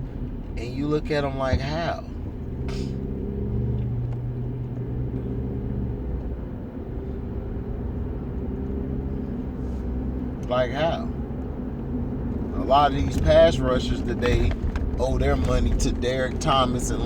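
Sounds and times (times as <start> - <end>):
mechanical hum and rumble: 0.0 - 17.0.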